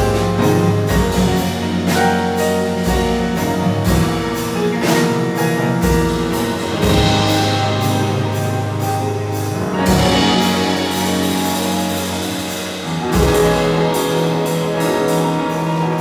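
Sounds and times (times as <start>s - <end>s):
drums and cymbals: 0.0s - 16.0s
upright piano: 0.0s - 16.0s.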